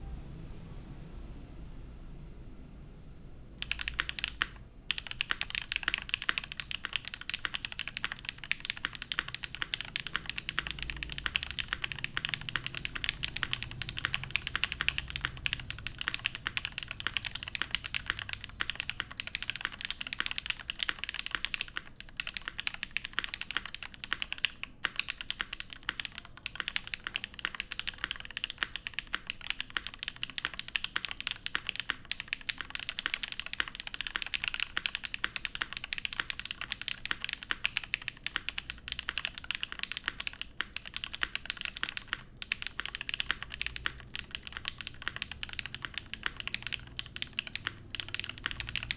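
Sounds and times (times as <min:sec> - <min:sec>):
fast typing on mechanical keyboard: 0:03.6 - 0:48.9.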